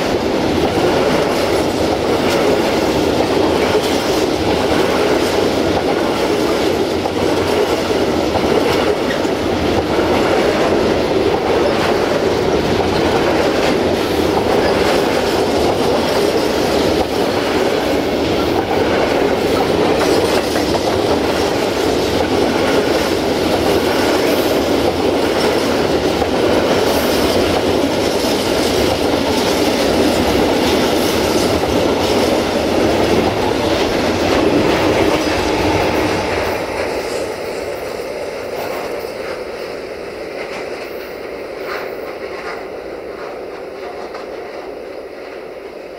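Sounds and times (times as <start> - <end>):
wheels clacking over rail joints: 0.0 - 39.6
freight train rolling past: 0.0 - 45.9.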